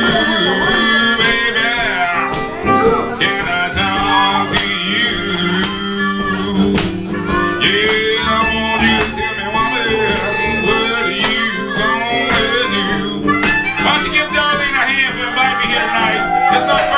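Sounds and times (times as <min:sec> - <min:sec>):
acoustic guitar accompaniment: 0:00.0 - 0:16.9
harmonica playing blues: 0:00.0 - 0:16.9.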